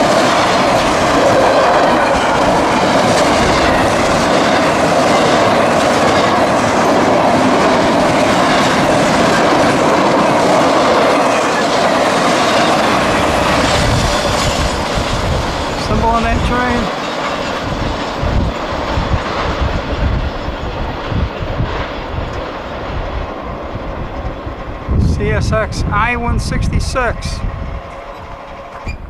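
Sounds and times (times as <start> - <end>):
freight train cars rolling past: 0.0 - 29.0.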